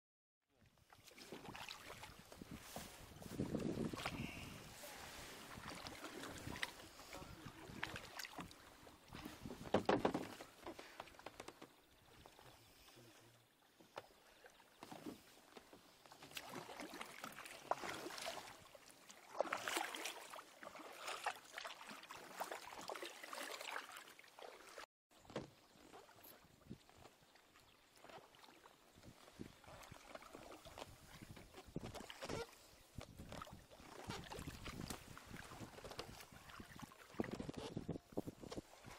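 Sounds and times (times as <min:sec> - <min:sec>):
paddle splashing in water: 0:00.6 - 0:38.9.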